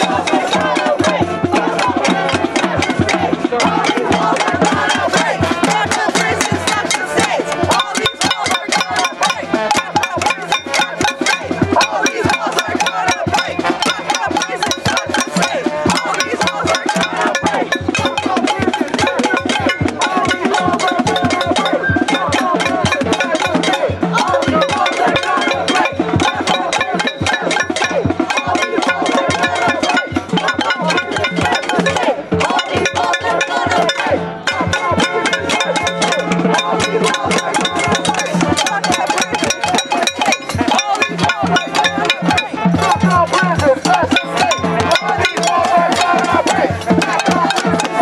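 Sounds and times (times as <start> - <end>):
din of noisemakers: 0.0 - 48.0
fast clatter of drums: 0.0 - 48.0.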